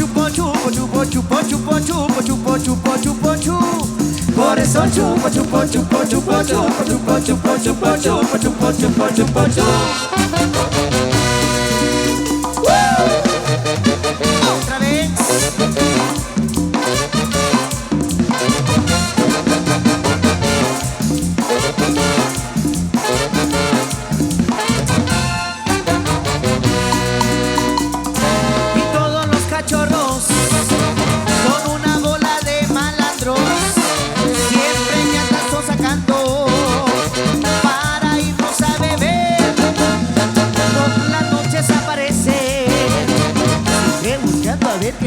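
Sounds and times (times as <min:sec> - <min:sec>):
bass: 0:00.0 - 0:45.0
brass: 0:00.0 - 0:45.0
drum-kit beat: 0:00.0 - 0:45.0
keyboard: 0:00.0 - 0:45.0
live band playing dance music: 0:00.0 - 0:45.0.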